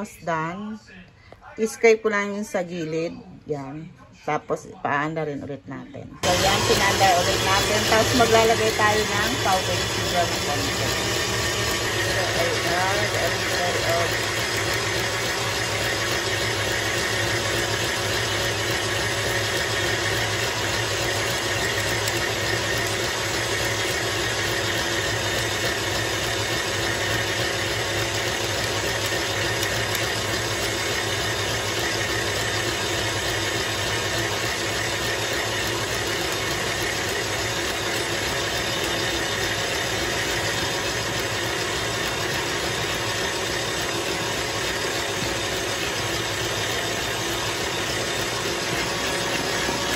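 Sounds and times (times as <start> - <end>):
stand mixer motor: 6.2 - 49.9
whisk beating in metal bowl: 6.2 - 49.9.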